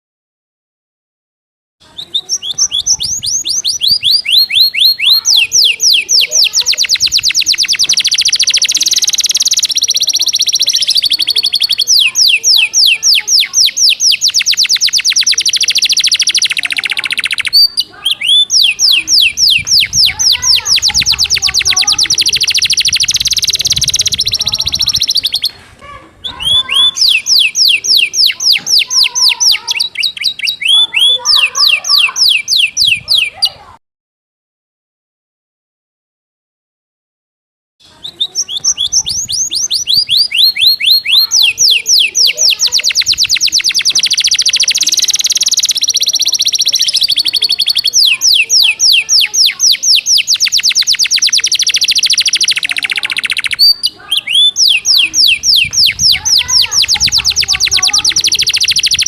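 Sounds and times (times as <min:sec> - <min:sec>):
canary singing trills: 0:01.8 - 0:33.8, 0:37.8 - 0:59.0.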